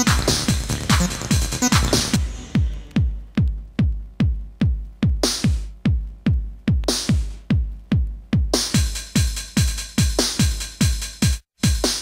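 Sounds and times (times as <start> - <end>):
quick hi-hats: 0.0 - 12.0
techno drum machine kick: 0.0 - 12.0.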